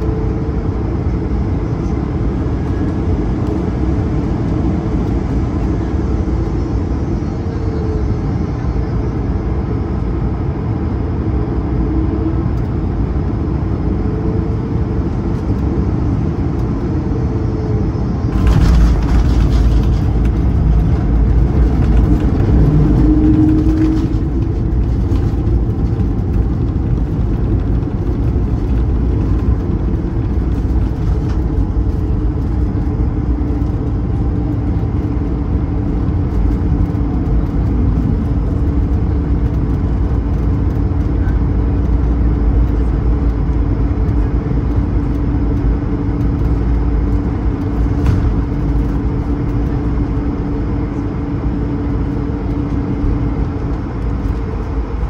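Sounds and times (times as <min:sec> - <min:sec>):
aircraft cabin rumble: 0:00.0 - 0:55.0
steady hum: 0:00.0 - 0:55.0.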